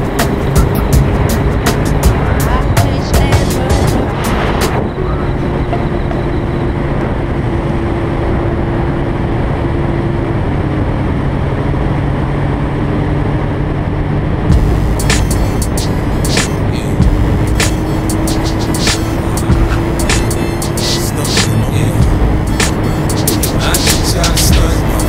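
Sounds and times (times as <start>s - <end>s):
motorcycle engine cruising: 0.0s - 25.0s
wind and road noise: 0.0s - 25.0s.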